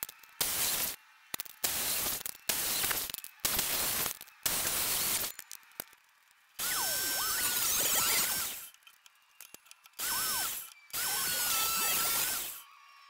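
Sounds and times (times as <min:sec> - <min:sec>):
circular saw cutting wood: 0:00.0 - 0:05.4, 0:06.6 - 0:09.0, 0:09.8 - 0:13.0
table saw whine: 0:00.0 - 0:05.6, 0:06.4 - 0:13.0.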